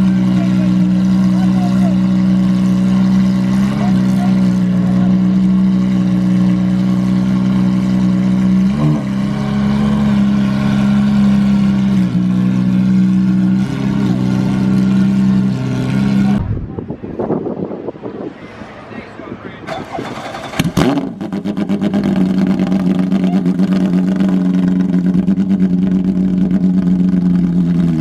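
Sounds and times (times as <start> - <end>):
car engine droning: 0.0 - 17.2, 19.6 - 28.0.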